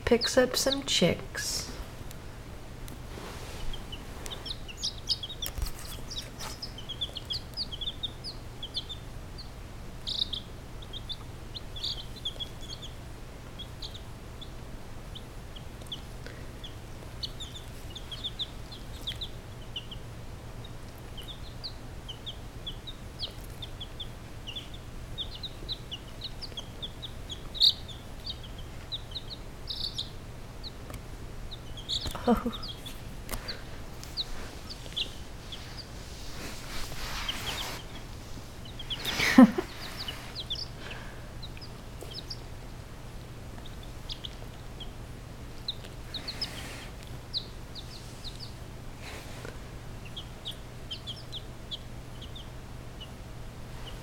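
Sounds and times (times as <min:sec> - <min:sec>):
chicks peeping: 0:00.0 - 0:54.0.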